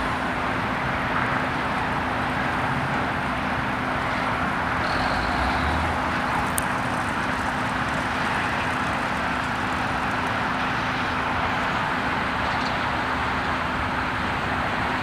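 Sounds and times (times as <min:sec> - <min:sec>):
crane diesel engine droning: 0:00.0 - 0:15.0.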